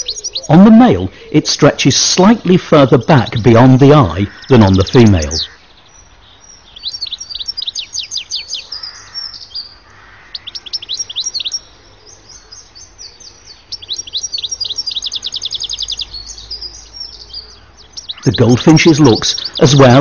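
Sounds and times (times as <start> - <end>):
finch twittering song: 0.0 - 20.0.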